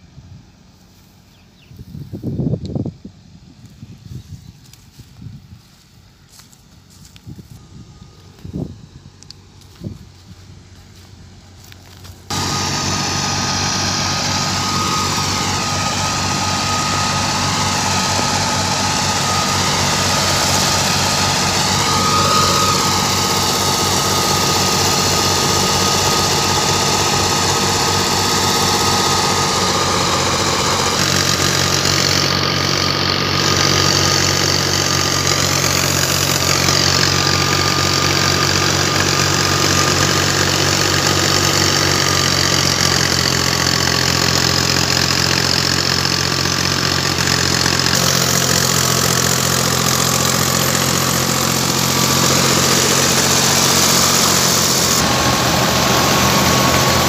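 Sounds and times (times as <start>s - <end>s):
farm machinery engine running: 0.0s - 57.0s.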